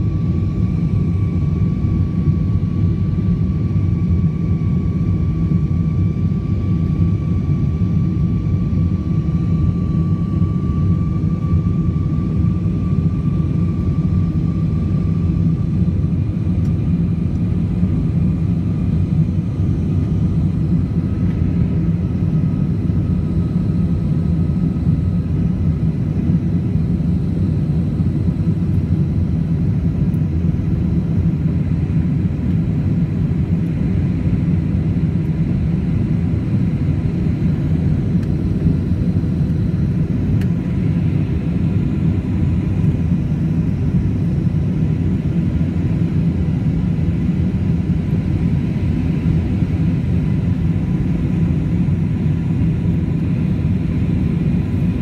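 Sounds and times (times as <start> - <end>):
airplane engines and airflow rumble: 0.0 - 55.0.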